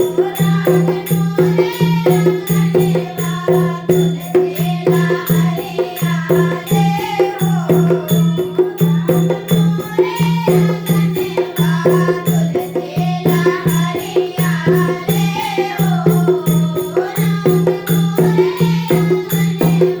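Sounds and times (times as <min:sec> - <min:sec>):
rhythmic percussion: 0:00.0 - 0:20.0.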